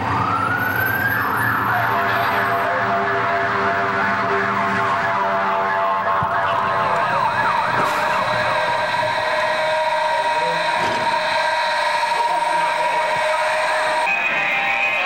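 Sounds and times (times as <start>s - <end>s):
fire engine siren yelping: 0.0s - 15.0s
steady siren tone: 0.0s - 15.0s.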